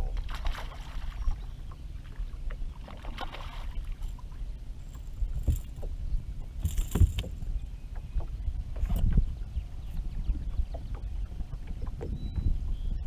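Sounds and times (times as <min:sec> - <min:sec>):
water lapping against hull: 0:00.0 - 0:13.0
wind on microphone: 0:00.0 - 0:13.0.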